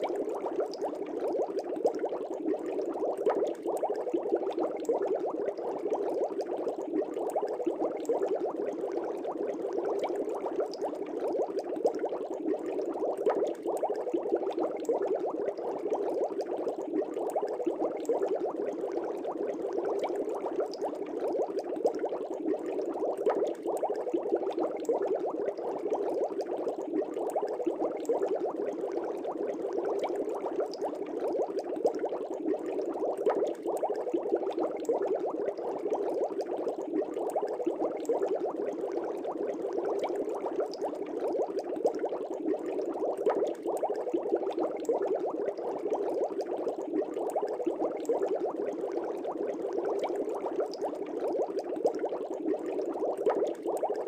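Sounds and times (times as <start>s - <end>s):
air bubbles bubbling in water: 0.0s - 54.0s.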